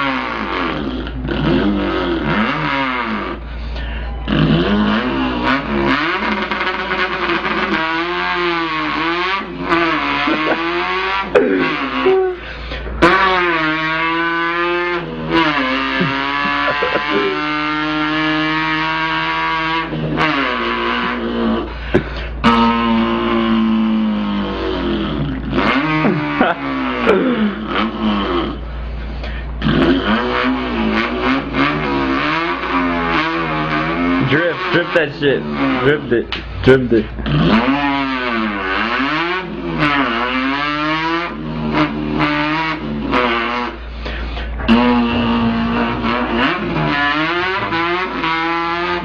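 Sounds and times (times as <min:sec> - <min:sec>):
man imitating engine revving: 0:00.0 - 0:49.0.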